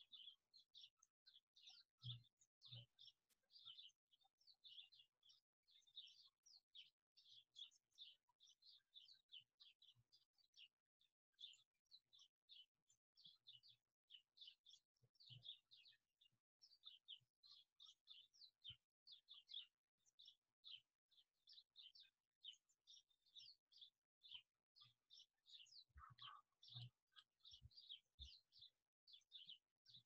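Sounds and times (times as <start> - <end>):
faint high bird chirps: 0.0 - 30.0.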